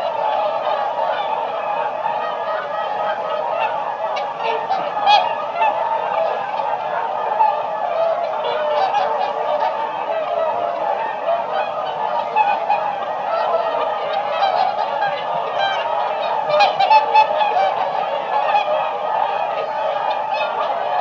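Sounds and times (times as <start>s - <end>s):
swans honking: 0.0s - 21.0s.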